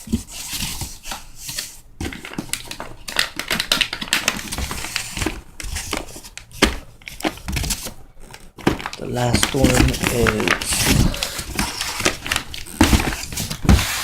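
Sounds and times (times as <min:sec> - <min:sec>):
cardboard boxes rustling and scraping: 0:00.0 - 0:03.0, 0:04.3 - 0:14.0.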